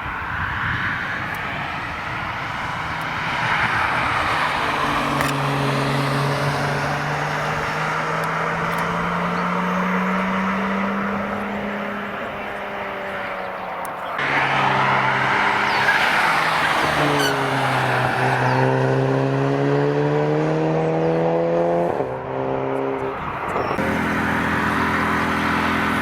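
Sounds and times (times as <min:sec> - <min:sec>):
car engine accelerating: 0:00.8 - 0:26.0.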